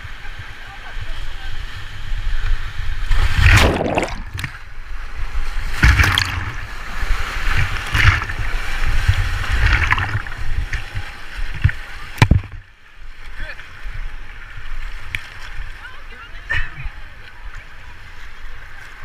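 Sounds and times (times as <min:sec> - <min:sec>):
river water rushing and splashing: 0:00.0 - 0:19.0.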